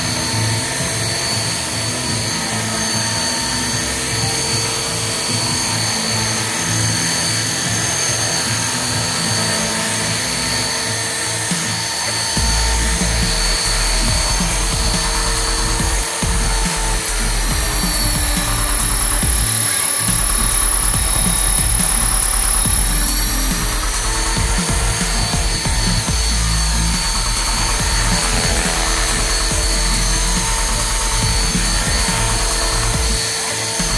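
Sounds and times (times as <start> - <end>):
rc helicopter motor whine: 0.0 - 33.9
rotor buzz: 0.0 - 33.9.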